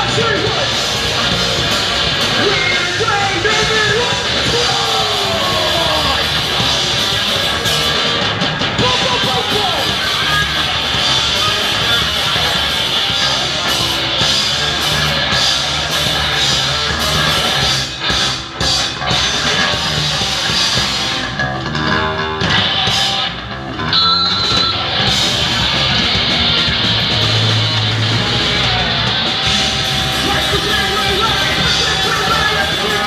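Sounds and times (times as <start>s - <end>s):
heavy rock band: 0.0s - 33.0s.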